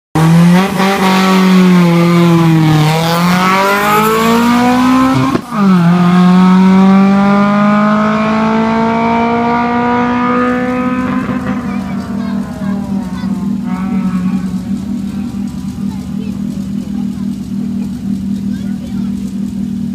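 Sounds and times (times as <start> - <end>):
race car engine revving: 0.2 - 19.9.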